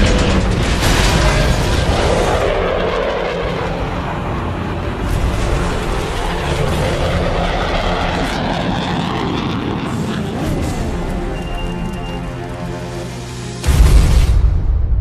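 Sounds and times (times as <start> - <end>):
fighter jet roaring past: 0.0 - 13.6.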